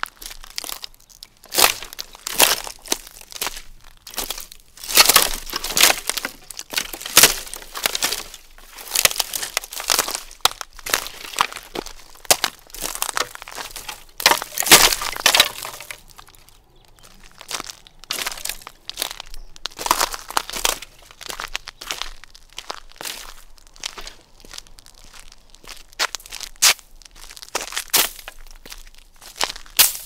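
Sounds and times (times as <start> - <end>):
footsteps on dry sticks: 0.0 - 30.0.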